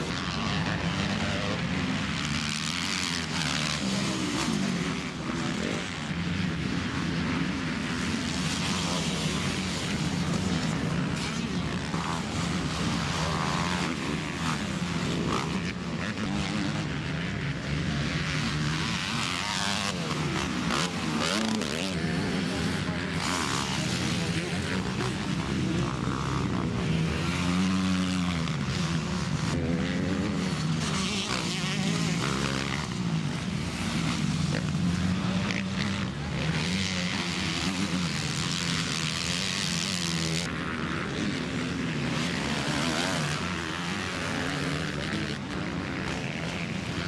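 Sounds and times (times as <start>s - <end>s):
motocross bike engines revving: 0.0s - 47.0s.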